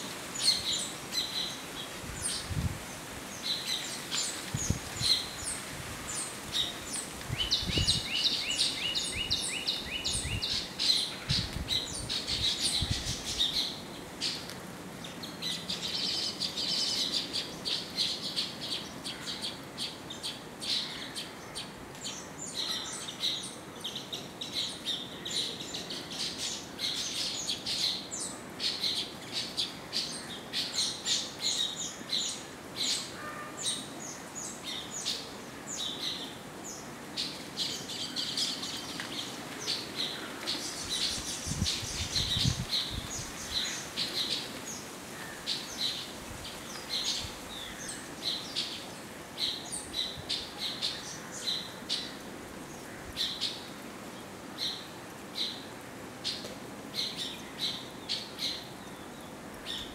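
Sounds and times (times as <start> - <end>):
small birds twittering: 0.2 - 59.9.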